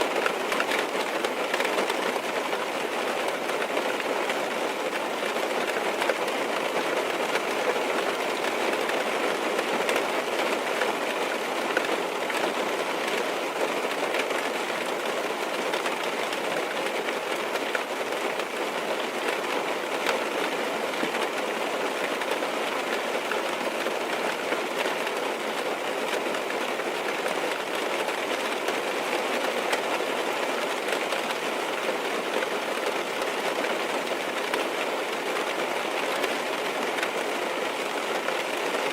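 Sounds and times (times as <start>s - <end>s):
rain tapping on car roof: 0.0s - 38.9s.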